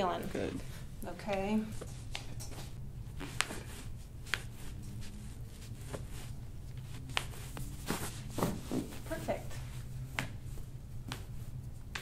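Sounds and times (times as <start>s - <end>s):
low steady hum: 0.0s - 12.0s
soft rustling of hands on sock: 1.3s - 12.0s.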